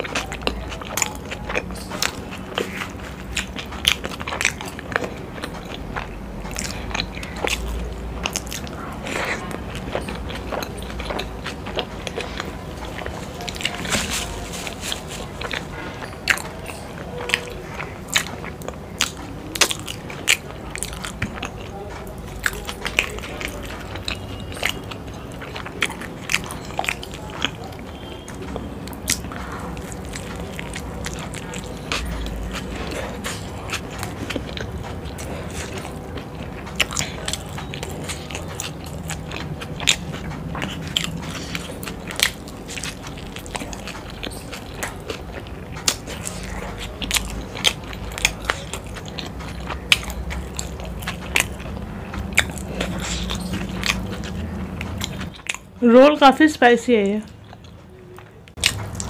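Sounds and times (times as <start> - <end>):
close chewing with mouth smacks: 0.0 - 59.0.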